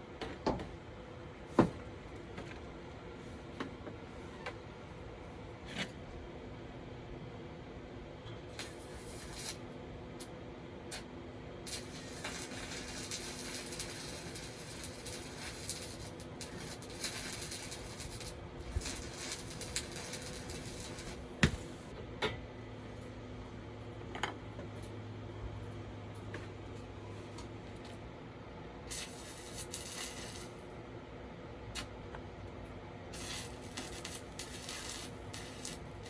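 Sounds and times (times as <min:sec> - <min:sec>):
low steady hum: 0:00.8 - 0:36.0.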